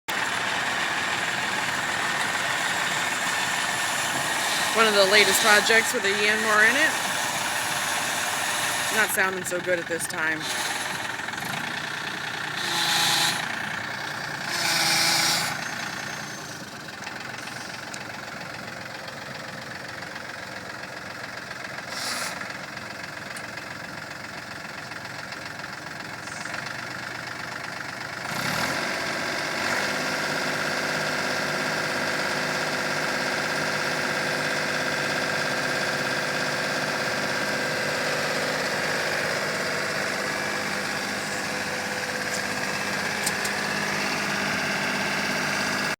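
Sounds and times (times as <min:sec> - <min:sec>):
tractor diesel engine running: 0:00.1 - 0:45.9.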